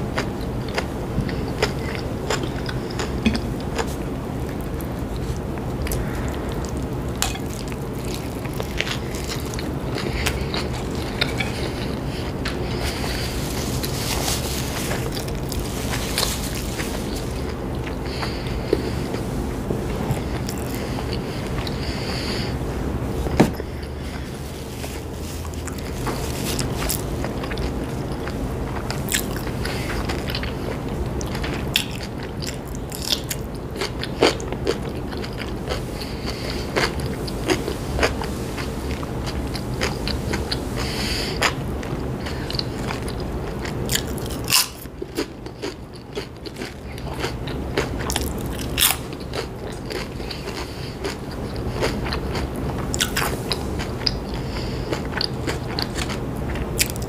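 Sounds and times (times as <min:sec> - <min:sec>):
chewing crunchy chips: 0:00.0 - 0:22.6, 0:23.2 - 0:57.0.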